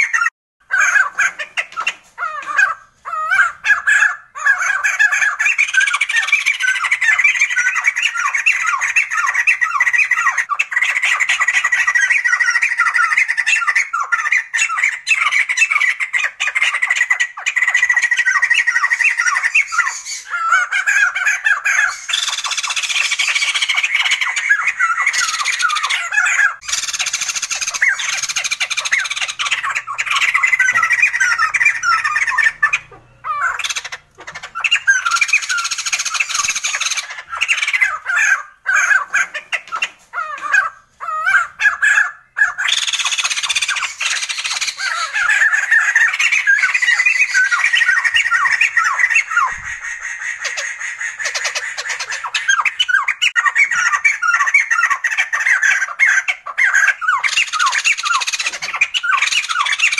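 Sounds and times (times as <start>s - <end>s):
bird squawking chatter: 0.0s - 59.9s.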